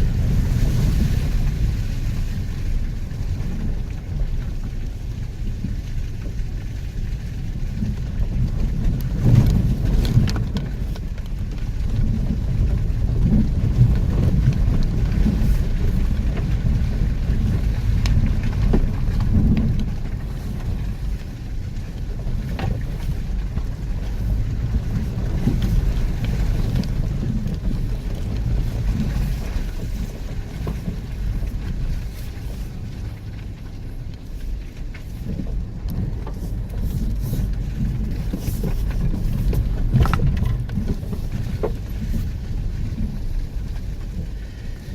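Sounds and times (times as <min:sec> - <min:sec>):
vehicle engine rumbling: 0:00.0 - 0:44.9
wind on microphone: 0:00.0 - 0:44.9.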